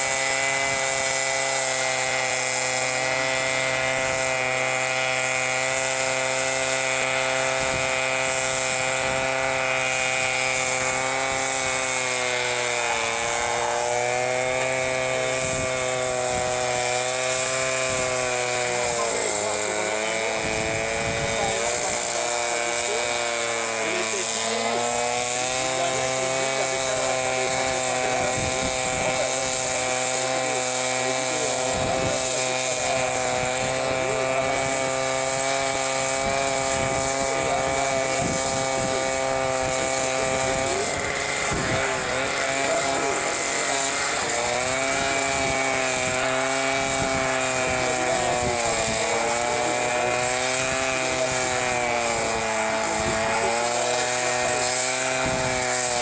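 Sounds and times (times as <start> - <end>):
machine engine running loudly: 0.0 - 56.0.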